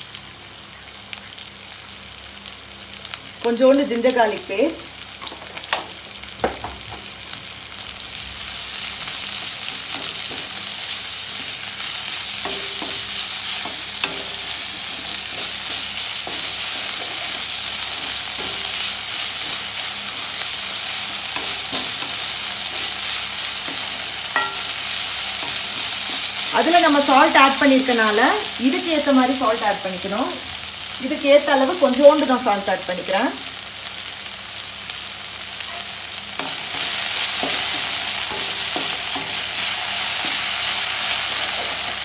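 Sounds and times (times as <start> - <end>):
onions sizzling in hot oil: 0.0 - 42.0.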